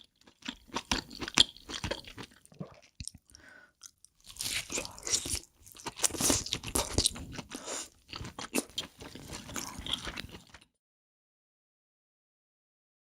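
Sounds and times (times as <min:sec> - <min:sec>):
crab shell crunching while eating: 0:00.0 - 0:10.7.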